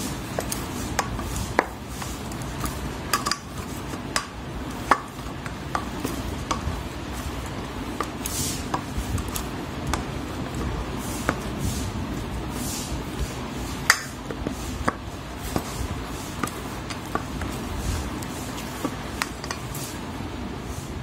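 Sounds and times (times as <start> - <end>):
hands kneading dough: 0.0 - 21.0.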